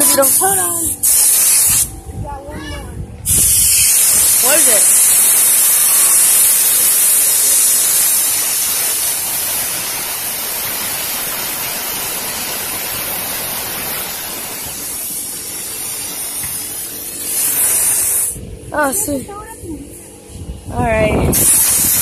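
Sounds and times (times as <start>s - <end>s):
compressed air hissing from nozzle: 0.0s - 1.9s, 3.2s - 18.5s, 21.3s - 22.0s.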